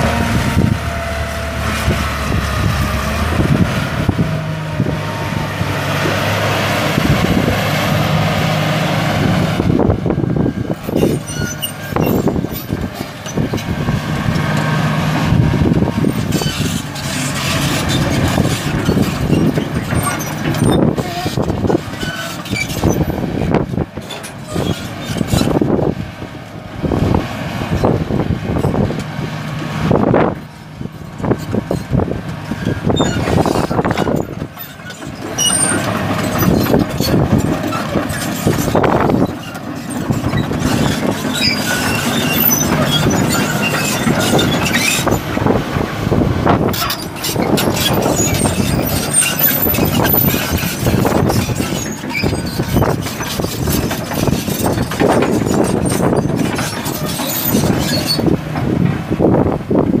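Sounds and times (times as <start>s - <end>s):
excavator diesel engine running: 0.0s - 60.0s.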